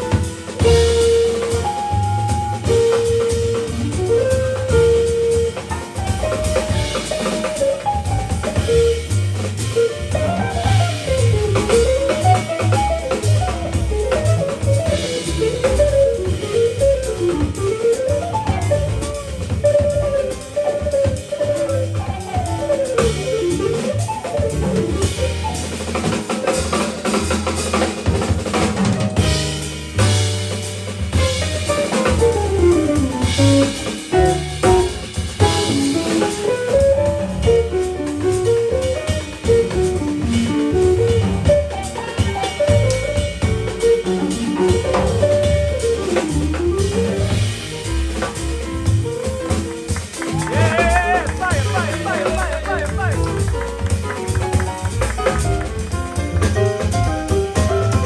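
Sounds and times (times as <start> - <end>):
drum kit: 0.0 - 58.0
walking upright bass: 0.0 - 58.0.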